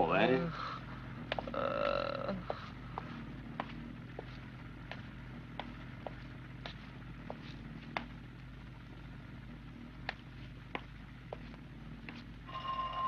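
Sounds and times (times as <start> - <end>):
steady low hum: 0.0 - 13.0
footsteps on pavement: 0.8 - 12.5.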